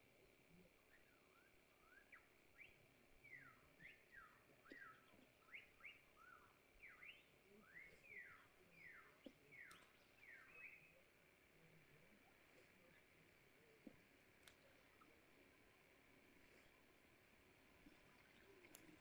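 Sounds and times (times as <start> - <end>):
faint whistled birdsong: 0.0 - 19.0.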